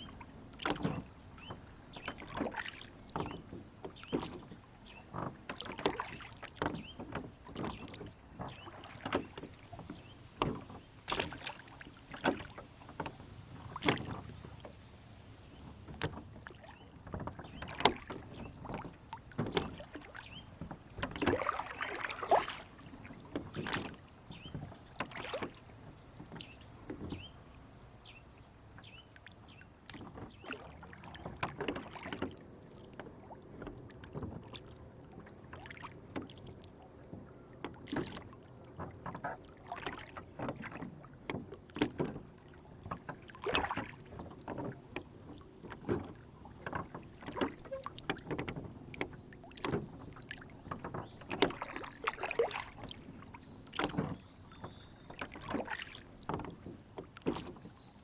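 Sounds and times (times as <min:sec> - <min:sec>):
water lapping against hull: 0:00.0 - 0:58.0
water splashes: 0:00.0 - 0:58.0
knocks on boat: 0:00.6 - 0:14.8, 0:15.8 - 0:27.4, 0:37.1 - 0:57.8.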